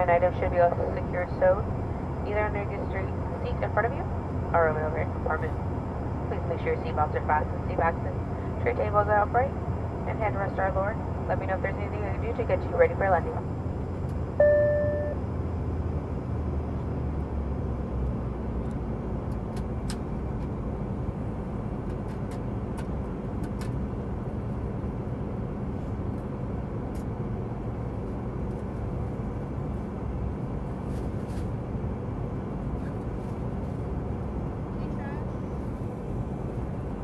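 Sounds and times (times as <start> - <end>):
faint hum: 0.0 - 17.8, 18.6 - 37.0
aircraft cabin engine rush: 0.0 - 37.0.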